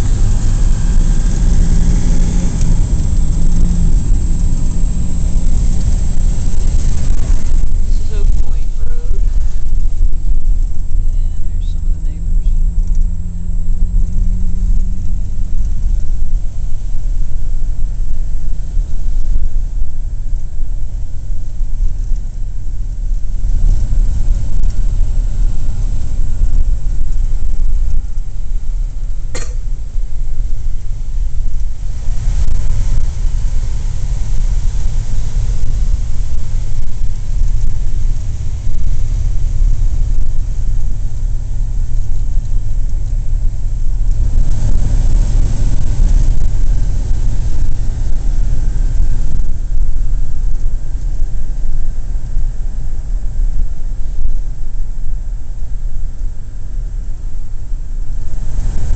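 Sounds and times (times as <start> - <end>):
car engine running: 0.0 - 58.9
road rumble: 0.0 - 58.9.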